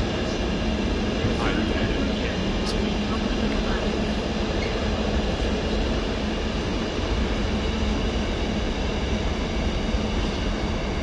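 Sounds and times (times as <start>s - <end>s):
droning hum: 0.0s - 11.0s
train rumble: 0.0s - 11.0s.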